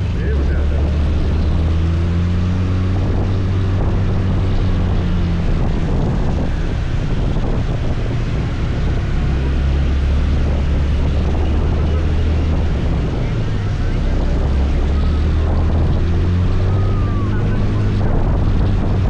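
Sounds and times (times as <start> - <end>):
scooter engine and road drone: 0.0 - 19.0.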